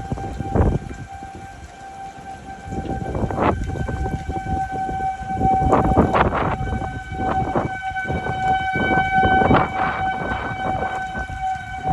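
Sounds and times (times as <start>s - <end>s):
warning siren steady tone: 0.0s - 11.9s
wind buffeting microphone: 0.0s - 11.9s.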